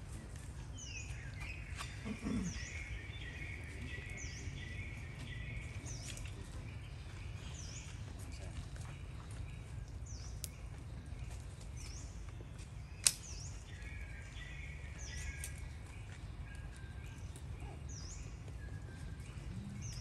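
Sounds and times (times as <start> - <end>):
low rumble of wind: 0.0 - 20.0
bird chirping: 0.1 - 20.0
thin whistled bird notes: 0.3 - 12.2, 12.8 - 20.0.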